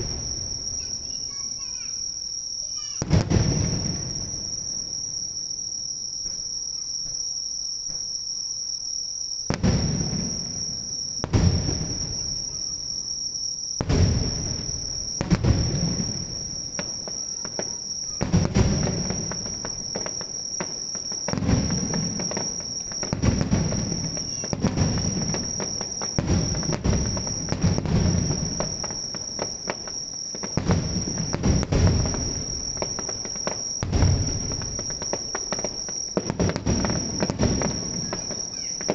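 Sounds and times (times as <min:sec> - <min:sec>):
fireworks bursting with booms: 0:00.0 - 0:38.9
high-pitched insect chorus: 0:00.0 - 0:38.9.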